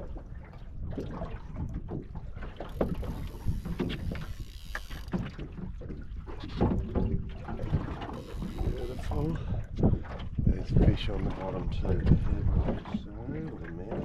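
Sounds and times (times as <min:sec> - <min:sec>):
water slapping boat hull: 0:00.0 - 0:14.0
wind buffeting microphone: 0:00.0 - 0:14.0.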